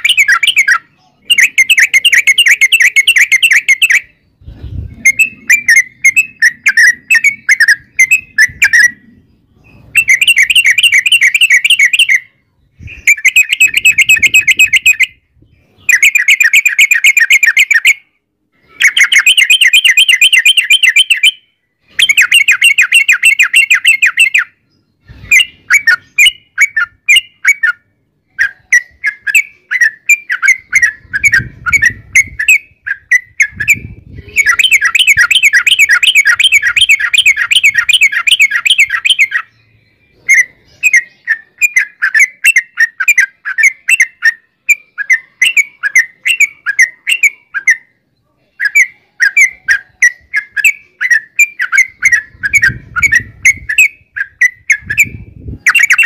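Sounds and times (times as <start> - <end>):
bird trilling song: 0.0 - 56.0.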